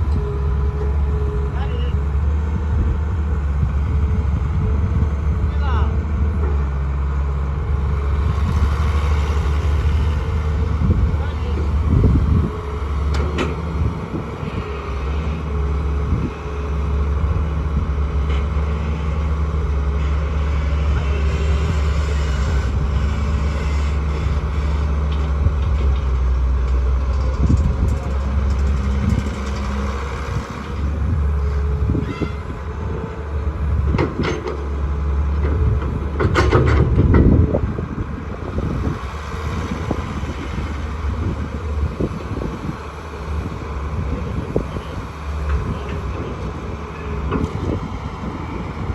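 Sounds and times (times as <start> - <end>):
diesel engines droning: 0.0 - 48.9.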